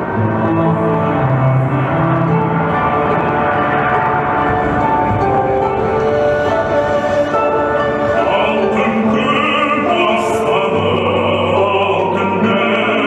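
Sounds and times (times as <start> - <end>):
choir singing: 0.0 - 13.0
orchestral music: 0.0 - 13.0.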